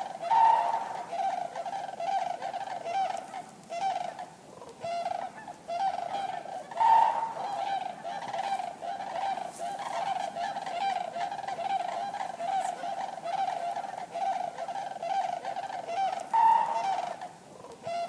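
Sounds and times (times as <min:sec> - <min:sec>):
cranes trumpeting calls: 0:00.0 - 0:18.0.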